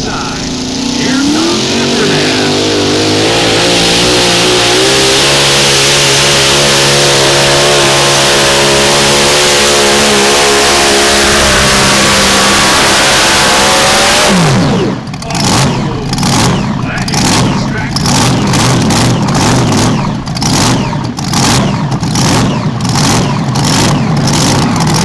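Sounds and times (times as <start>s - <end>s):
racing tractor engine at full throttle: 0.0s - 25.0s.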